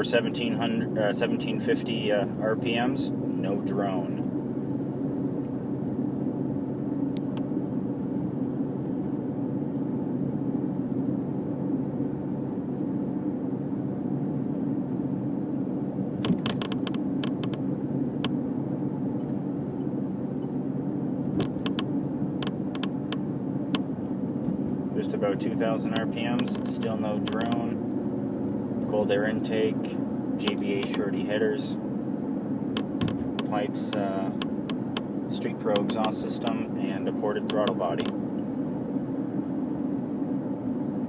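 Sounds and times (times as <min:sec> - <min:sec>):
car exhaust hum cruising: 0:00.0 - 0:41.0.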